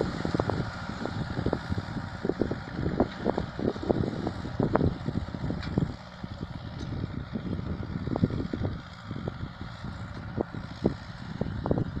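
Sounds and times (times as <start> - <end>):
tractor diesel engine running: 0.0 - 12.0
wind buffeting microphone: 0.0 - 12.0.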